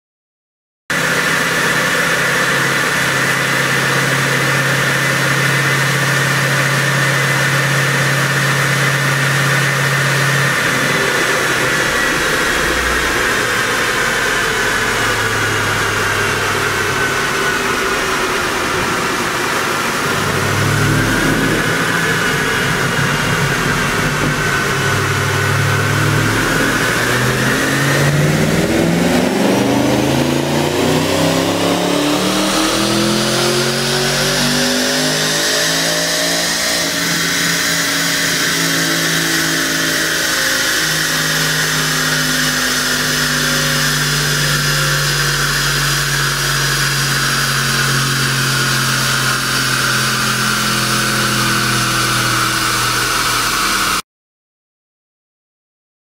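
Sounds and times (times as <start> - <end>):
car engine under load: 0.9 - 54.0
engine revving up: 0.9 - 54.0
high whine: 0.9 - 54.0.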